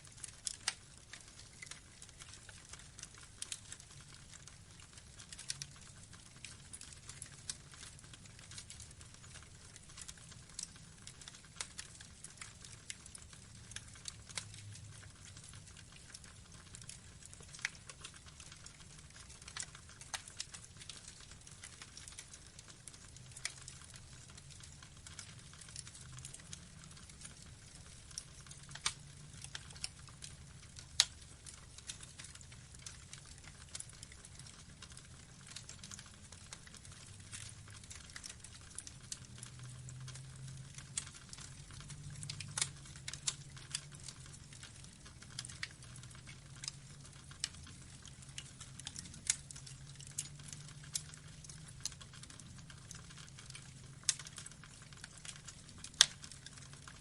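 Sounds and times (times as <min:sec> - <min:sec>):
burning logs crackling: 0:00.0 - 0:57.0.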